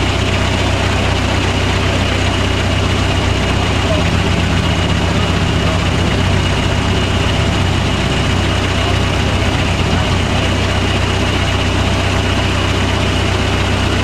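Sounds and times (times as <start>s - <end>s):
truck engine running at low revs: 0.0s - 14.0s.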